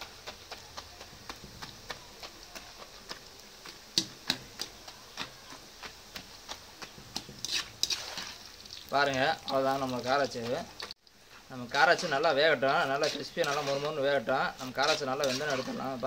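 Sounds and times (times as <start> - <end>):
dough deep-frying in oil: 0.0 - 16.0.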